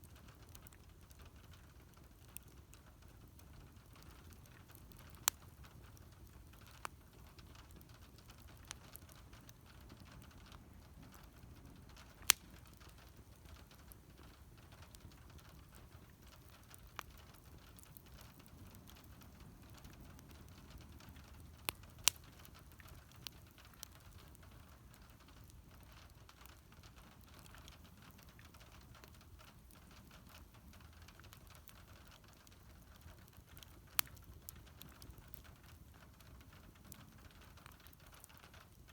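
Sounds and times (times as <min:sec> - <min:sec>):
wood fire crackling: 0:00.0 - 0:38.9
sharp pops of fire: 0:00.4 - 0:38.9.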